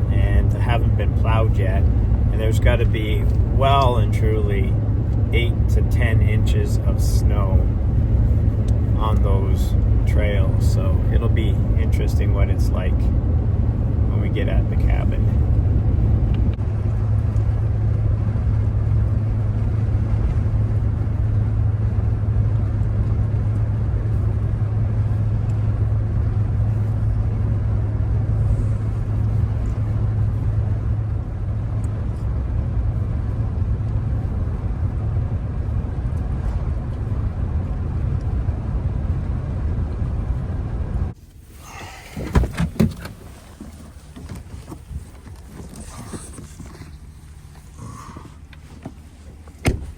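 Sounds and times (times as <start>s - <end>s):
engine and road noise drone: 0.0s - 49.9s.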